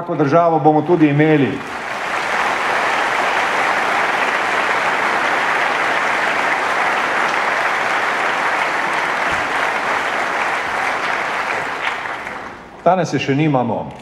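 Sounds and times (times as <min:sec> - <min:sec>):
audience applauding: 0:00.9 - 0:12.8.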